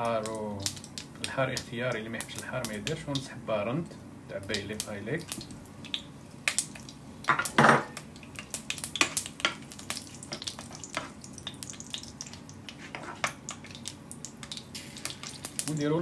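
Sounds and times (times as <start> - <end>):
spices crackling in hot oil: 0.0 - 16.0.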